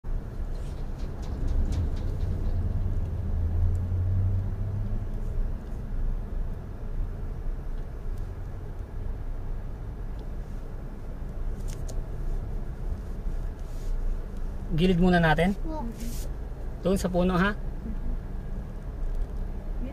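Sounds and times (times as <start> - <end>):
car engine rumble: 0.0 - 19.9
road noise: 0.0 - 19.9.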